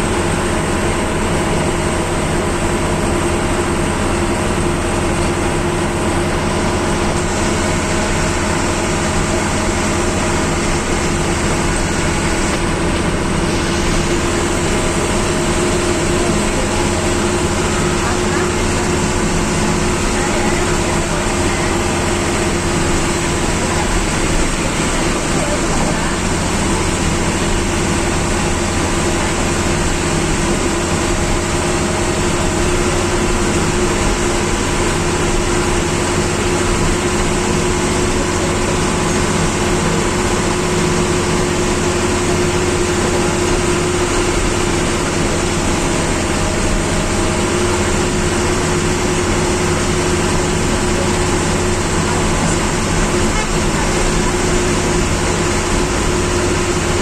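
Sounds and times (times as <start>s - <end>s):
bus engine running: 0.0s - 57.0s
road noise: 0.0s - 57.0s.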